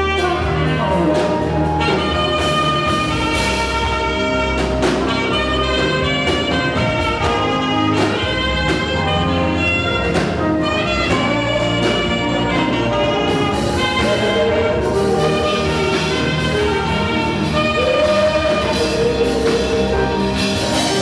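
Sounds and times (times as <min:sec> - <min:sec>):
bass line: 0:00.0 - 0:21.0
drum beats: 0:00.0 - 0:21.0
saxophone melody: 0:00.0 - 0:21.0.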